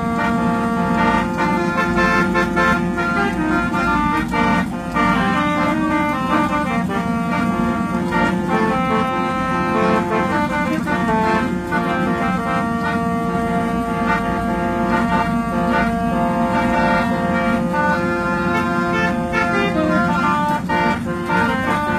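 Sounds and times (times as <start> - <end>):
musical horn playing a tune: 0.0 - 21.9
steady low hum: 0.0 - 21.9.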